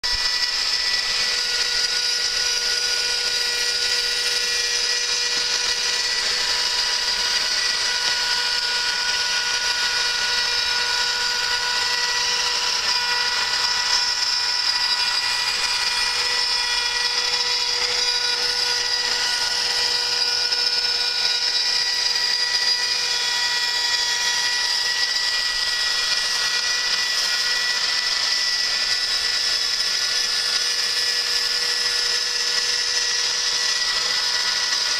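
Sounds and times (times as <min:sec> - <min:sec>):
cutter hissing in metal: 0:00.0 - 0:34.9
router spindle whine: 0:00.0 - 0:34.9.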